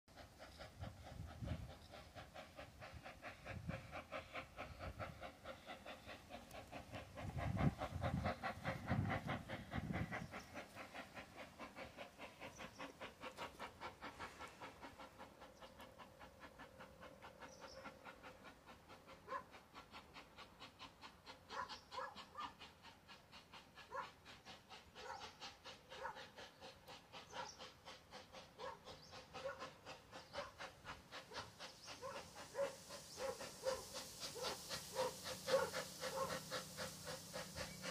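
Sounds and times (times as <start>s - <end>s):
steam locomotive exhaust chuffs: 0.1s - 37.9s.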